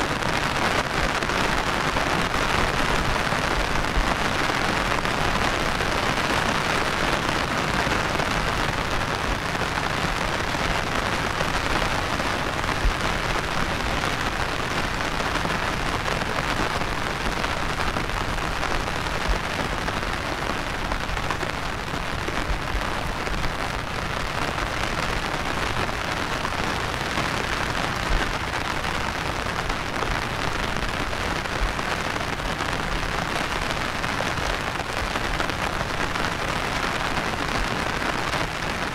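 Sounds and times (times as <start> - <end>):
heavy rain hiss: 0.0 - 38.9
sharp raindrop hits: 0.0 - 38.9.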